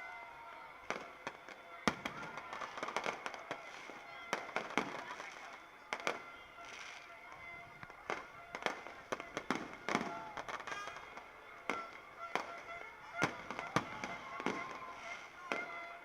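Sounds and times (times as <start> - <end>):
fireworks bursting: 0.8 - 16.0.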